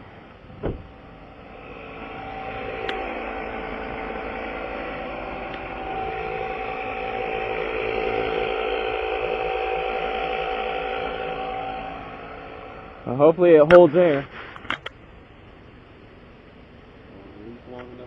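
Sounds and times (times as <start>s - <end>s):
air compressor whining hum: 0.0s - 18.0s.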